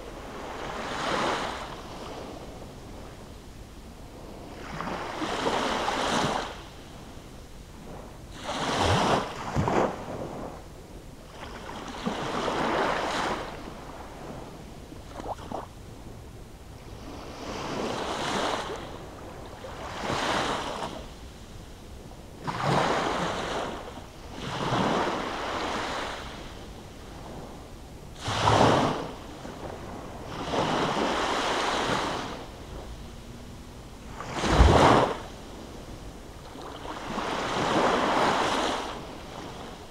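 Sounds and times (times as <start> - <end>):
small waves washing up beach: 0.0 - 3.3, 4.0 - 39.9.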